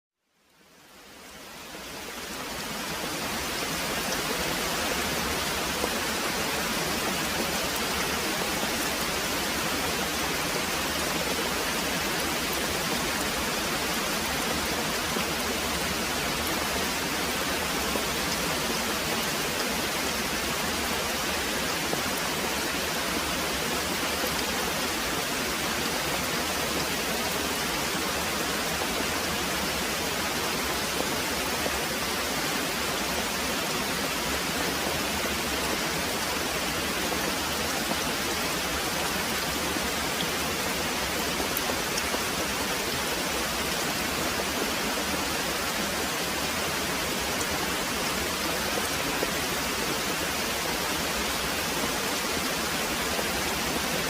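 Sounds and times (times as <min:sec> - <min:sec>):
heavy rain pouring: 0:00.6 - 0:54.0.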